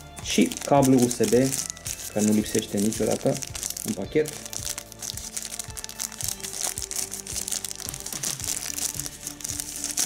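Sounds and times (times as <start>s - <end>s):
background music: 0.0s - 10.0s
wrapping crinkling: 0.0s - 10.0s.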